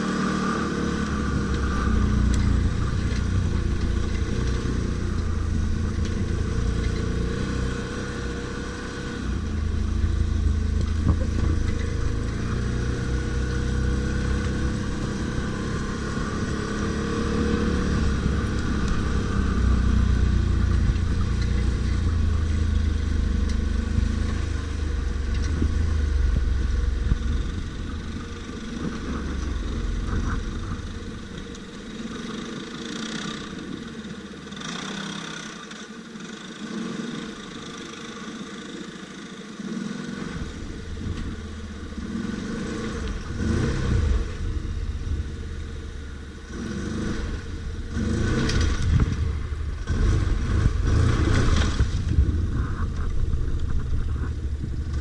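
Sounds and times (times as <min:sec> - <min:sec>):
atv engine revving: 0:00.0 - 0:55.0
clatter: 0:00.0 - 0:55.0.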